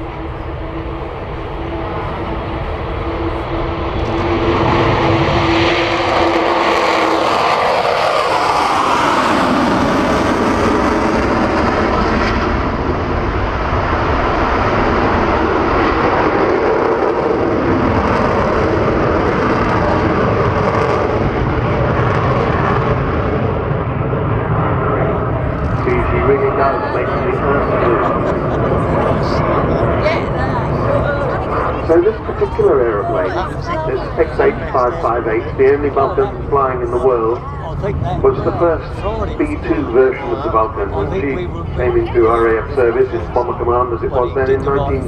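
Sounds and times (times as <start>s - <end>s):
jet bomber flying past: 0.0s - 45.0s.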